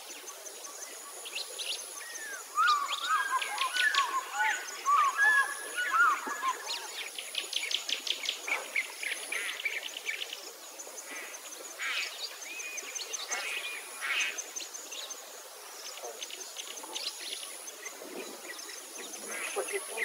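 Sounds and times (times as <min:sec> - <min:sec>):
small birds chirping: 0:00.6 - 0:20.0.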